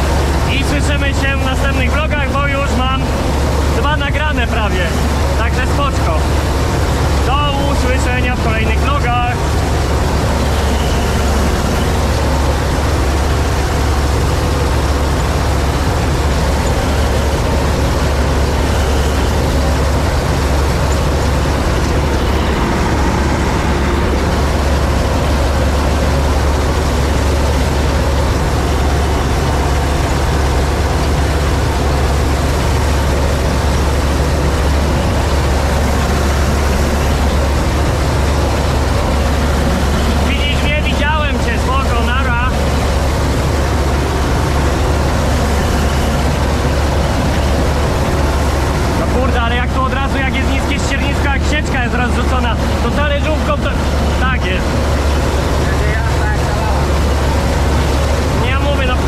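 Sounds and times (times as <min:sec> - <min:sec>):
combine harvester engine drone: 0:00.0 - 0:59.0
rush of machinery noise: 0:00.0 - 0:59.0.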